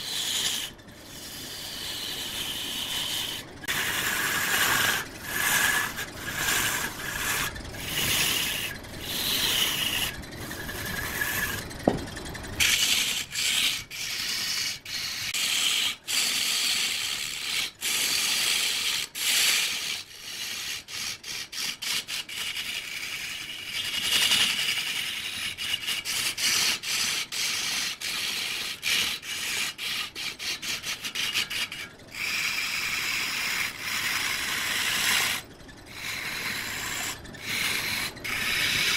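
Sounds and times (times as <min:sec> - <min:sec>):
wood lathe tool scraping: 0:00.0 - 0:38.9.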